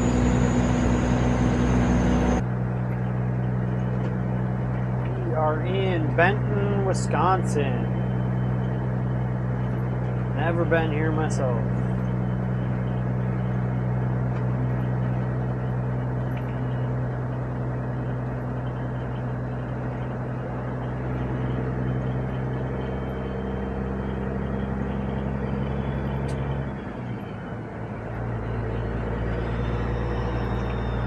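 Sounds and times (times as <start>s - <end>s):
road rumble: 0.0s - 31.0s
truck diesel engine drone: 0.0s - 31.0s.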